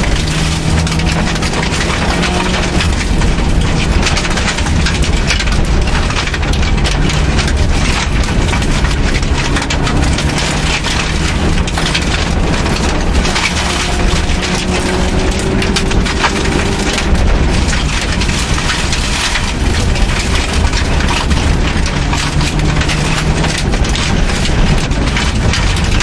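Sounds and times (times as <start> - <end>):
car engine running hard: 0.0 - 26.0
gravel rattling against underside: 0.0 - 26.0.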